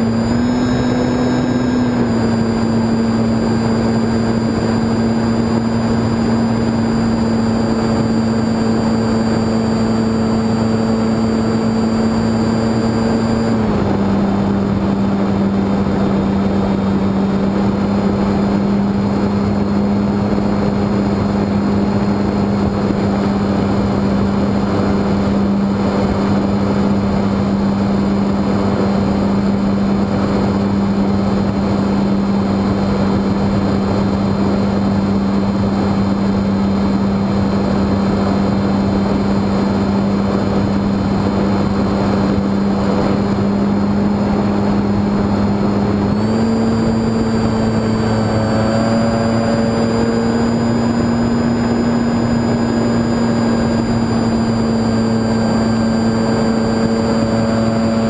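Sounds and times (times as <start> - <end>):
electric motor propeller drone: 0.0 - 58.0
rushing airflow: 0.0 - 58.0.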